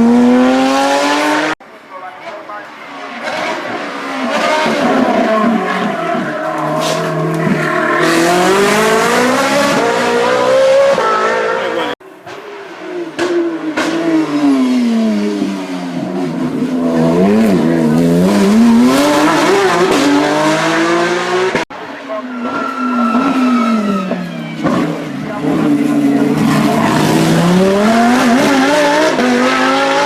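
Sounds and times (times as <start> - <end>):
race car engine revving: 0.0 - 1.6, 3.1 - 12.0, 13.0 - 21.7, 22.4 - 30.0.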